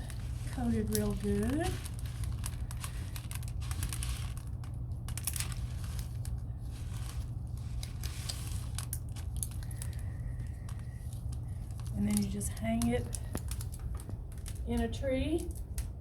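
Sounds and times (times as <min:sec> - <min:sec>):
bird seed rustling and clicking: 0:00.0 - 0:16.0
steady low hum: 0:00.0 - 0:16.0.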